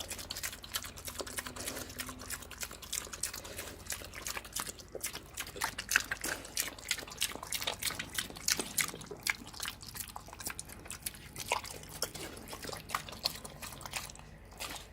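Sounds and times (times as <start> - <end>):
pig eating wet slop: 0.0 - 14.9.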